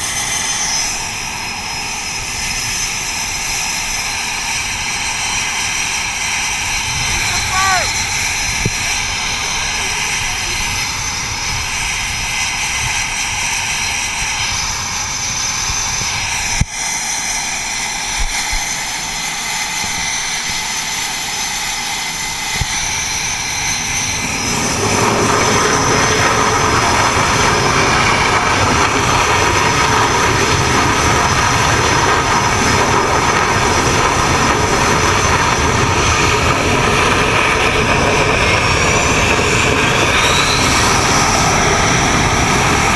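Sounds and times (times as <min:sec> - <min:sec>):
jet engines roaring with whine: 0:00.0 - 0:42.9.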